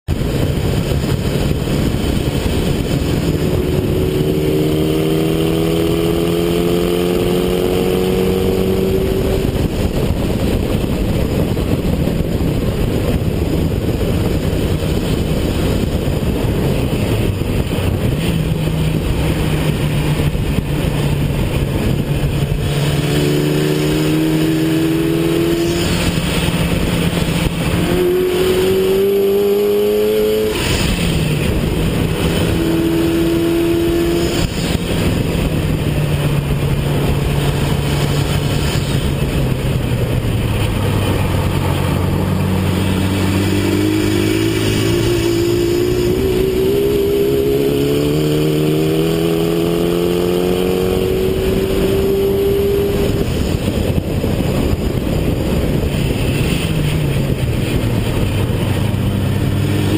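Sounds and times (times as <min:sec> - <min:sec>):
car engine running hard: 0:00.0 - 0:59.9
wind and road noise: 0:00.0 - 0:59.9.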